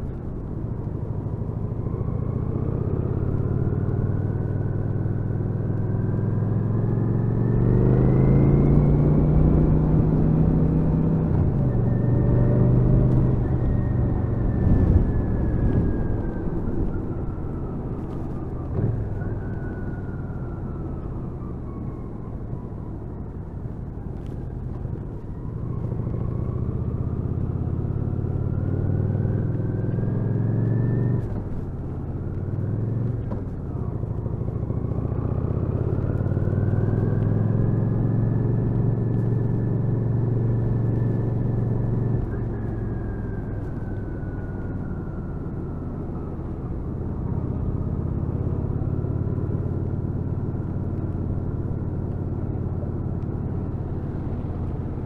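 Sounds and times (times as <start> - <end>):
motorcycle engine accelerating: 1.3 - 20.2, 25.4 - 55.0.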